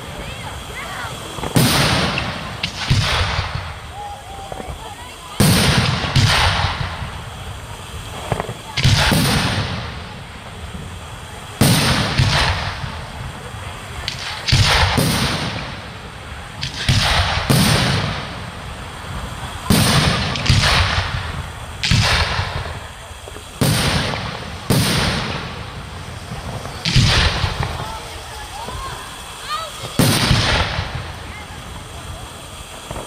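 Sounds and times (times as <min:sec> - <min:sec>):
fireworks bangs echoing: 0:00.0 - 0:33.0.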